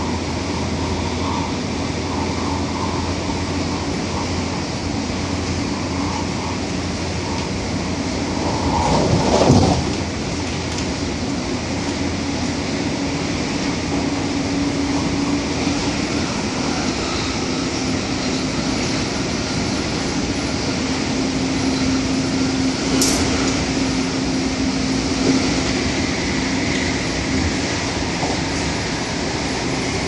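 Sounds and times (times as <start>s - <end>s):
train rushing and rumbling: 0.0s - 30.0s.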